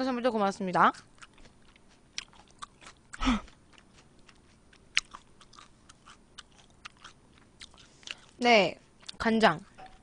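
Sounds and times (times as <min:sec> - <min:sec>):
crunchy chewing of fried chicken: 0:01.0 - 0:09.2.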